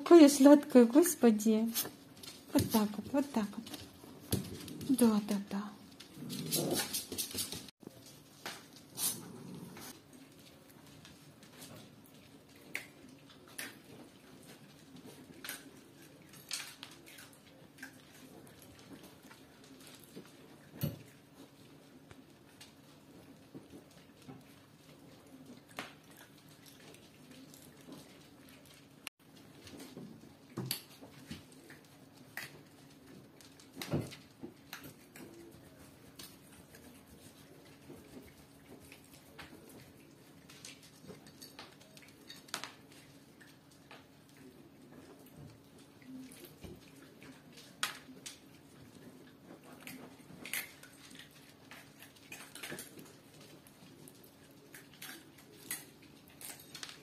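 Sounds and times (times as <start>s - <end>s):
dogs eating from bowls: 0.1s - 57.0s.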